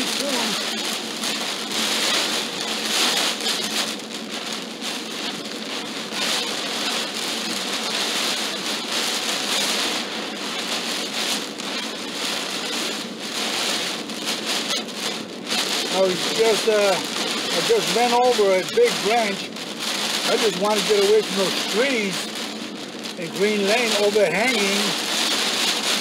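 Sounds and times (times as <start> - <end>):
heavy rain on car windshield: 0.0 - 26.0.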